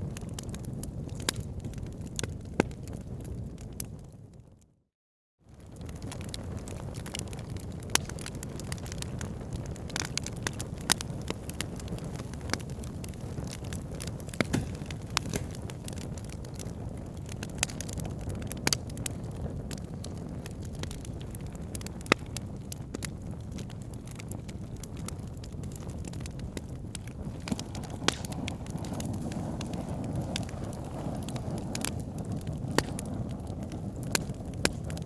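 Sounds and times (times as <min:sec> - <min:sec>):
wood fire crackling and popping: 0:00.0 - 0:04.2, 0:05.5 - 0:35.0.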